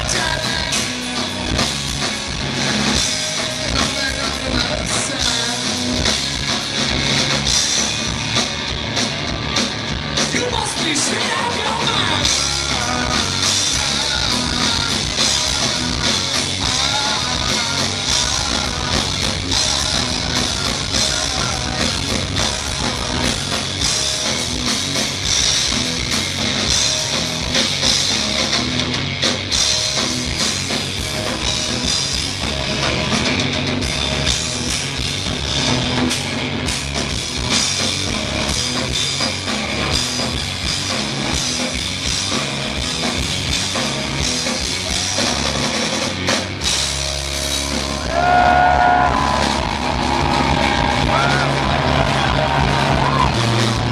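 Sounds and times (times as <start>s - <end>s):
bass guitar: 0.0s - 53.9s
drum kit: 0.0s - 53.9s
electric guitar: 0.0s - 53.9s.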